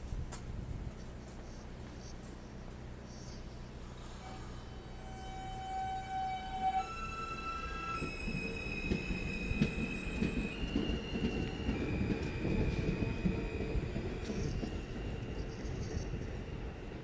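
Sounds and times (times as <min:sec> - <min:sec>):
train wheels rumbling on rails: 0:00.0 - 0:17.0
train traction motor whine: 0:01.1 - 0:17.0.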